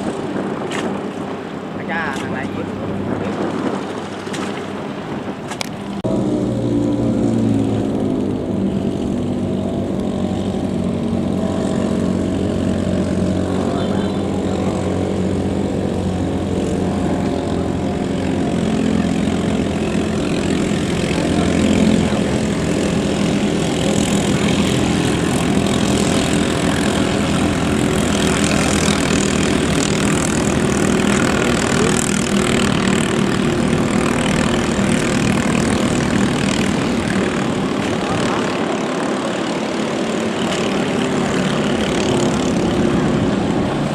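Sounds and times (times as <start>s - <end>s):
boat engines buzzing drone: 0.0s - 43.9s.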